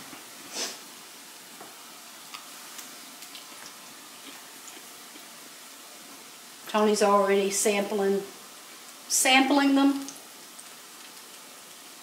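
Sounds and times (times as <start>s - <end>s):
eggplant frying in oil: 0.0s - 12.0s.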